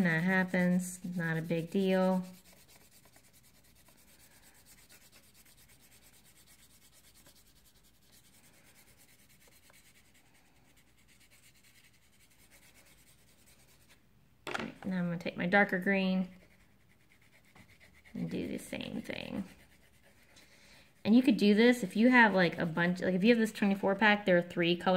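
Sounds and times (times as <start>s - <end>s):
crayon rubbing on paper: 0.0s - 14.0s, 16.2s - 23.4s.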